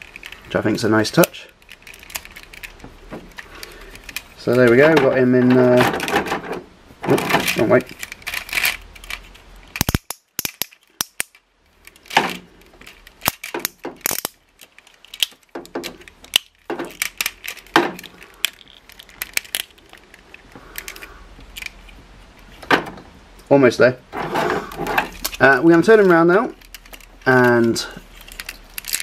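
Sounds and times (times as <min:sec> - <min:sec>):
plastic toy parts clicking: 0:00.0 - 0:22.7, 0:24.7 - 0:29.0.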